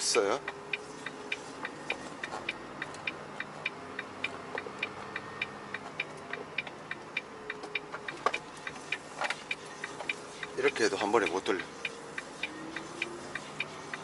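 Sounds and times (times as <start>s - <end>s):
turn signal clicking: 0.0s - 14.0s.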